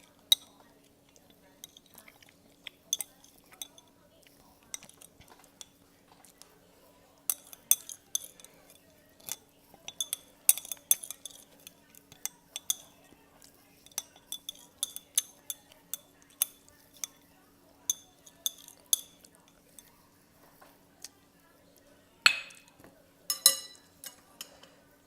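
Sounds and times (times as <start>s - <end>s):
utensils clinking against bowl: 0.0s - 6.6s, 7.2s - 20.8s, 22.2s - 25.0s.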